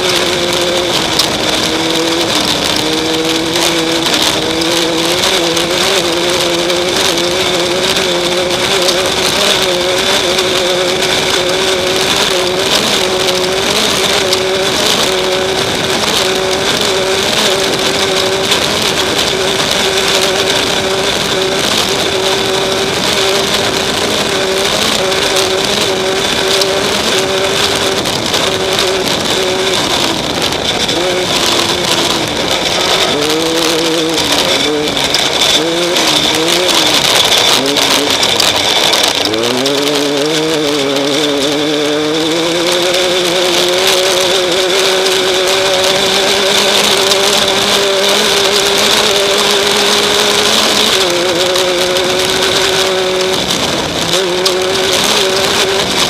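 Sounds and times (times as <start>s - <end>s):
heavy wind: 0.0s - 56.0s
race vehicle engine: 0.0s - 56.0s
rattling terrain noise: 0.0s - 56.0s.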